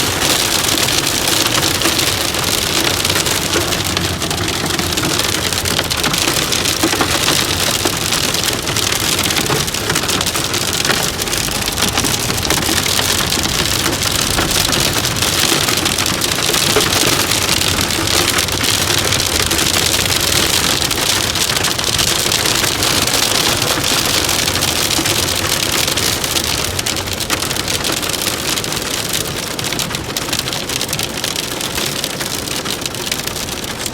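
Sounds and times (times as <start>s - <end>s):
rain pelting a hard surface: 0.0s - 33.9s.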